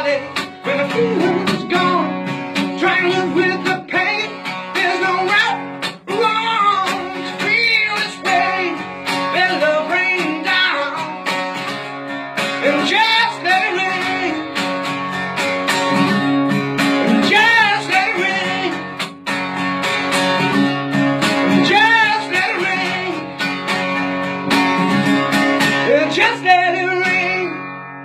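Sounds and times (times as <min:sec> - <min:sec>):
guitar strumming: 0:00.0 - 0:28.0.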